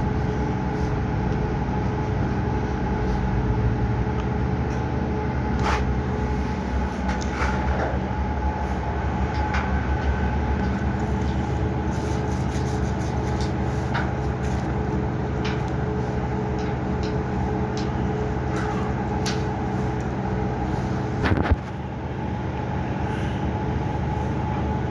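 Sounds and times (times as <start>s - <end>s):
vehicle running hum: 0.0s - 24.9s.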